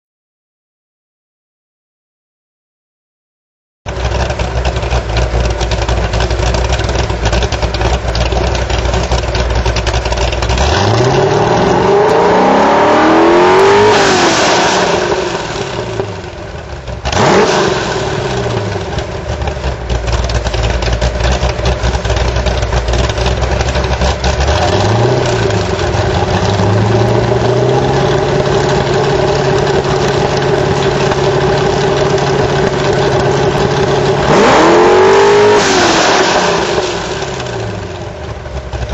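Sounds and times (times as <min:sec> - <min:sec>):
car engine idling and revving: 0:03.9 - 0:38.9.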